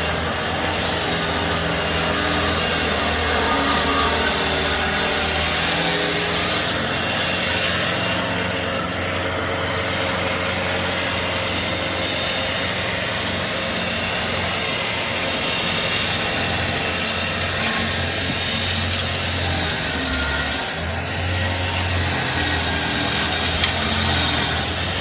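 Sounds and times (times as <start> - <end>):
stump grinder engine hum: 0.0 - 25.0.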